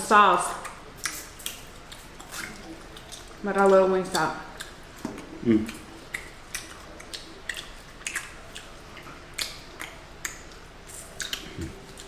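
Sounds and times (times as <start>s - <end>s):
wet chewing and lip smacking: 0.5s - 12.0s.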